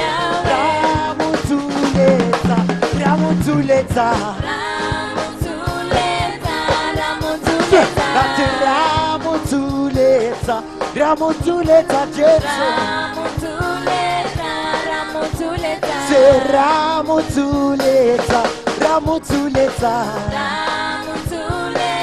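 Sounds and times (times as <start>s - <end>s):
band with drum kit: 0.0s - 22.0s
voices singing gospel song: 0.0s - 22.0s.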